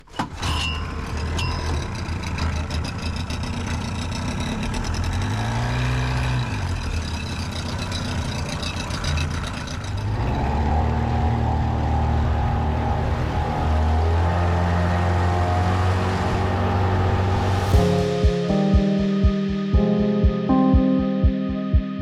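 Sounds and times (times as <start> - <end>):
engine running: 0.8 - 18.6.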